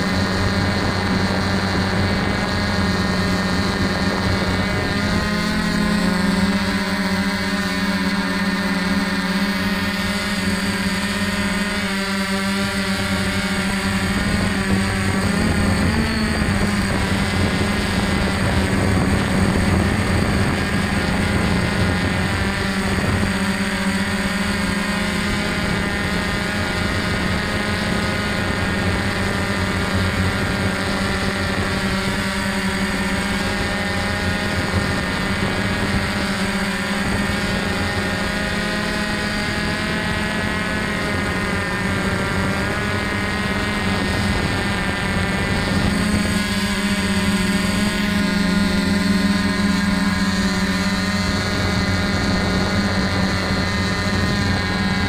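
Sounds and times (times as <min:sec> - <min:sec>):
drone motors and propellers humming: 0:00.0 - 0:55.0.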